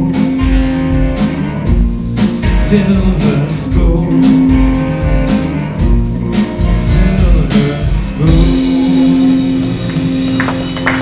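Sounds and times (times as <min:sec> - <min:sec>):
electric guitars: 0:00.0 - 0:11.0
live band playing: 0:00.0 - 0:11.0.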